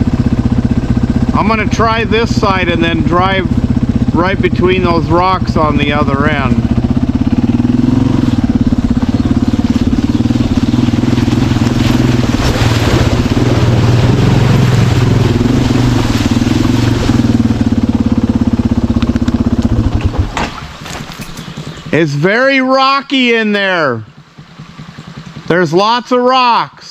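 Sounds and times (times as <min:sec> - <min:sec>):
dirt bike engine revving: 0:00.0 - 0:26.6.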